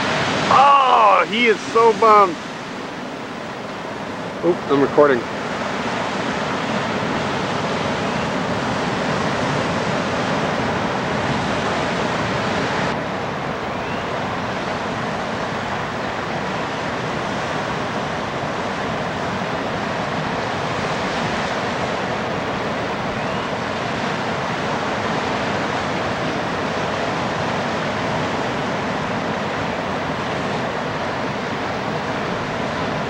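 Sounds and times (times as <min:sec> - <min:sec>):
ocean surf breaking: 0:00.0 - 0:33.0
wind on microphone: 0:00.0 - 0:33.0.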